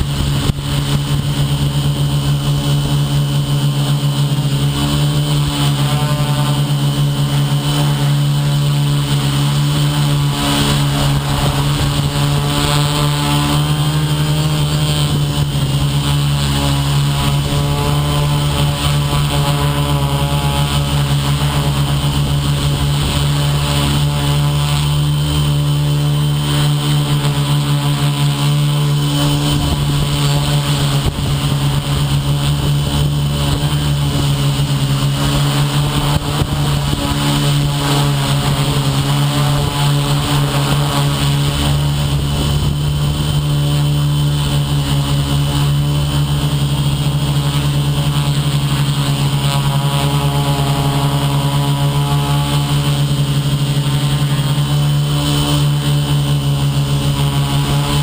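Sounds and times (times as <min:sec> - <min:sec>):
model aircraft motor humming: 0:00.0 - 0:58.0.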